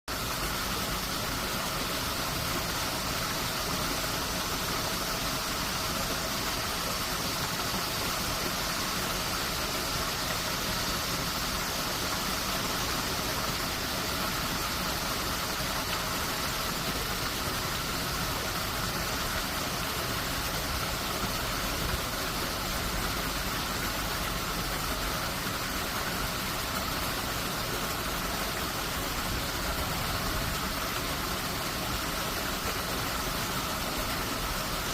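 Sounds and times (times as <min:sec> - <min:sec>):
water rushing through sluice gate: 0:00.1 - 0:34.9.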